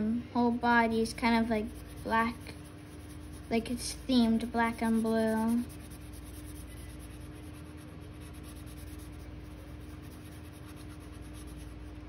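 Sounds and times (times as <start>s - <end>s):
marker scrubbing on paper: 1.0s - 12.0s.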